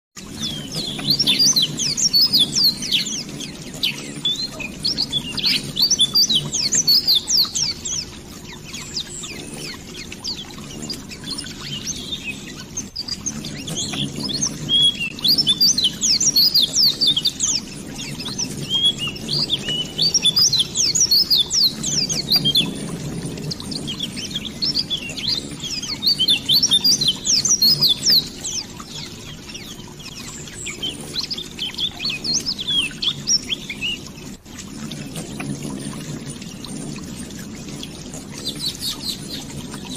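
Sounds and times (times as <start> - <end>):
flowing stream: 0.2 - 39.9
small birds chirping: 0.2 - 39.9.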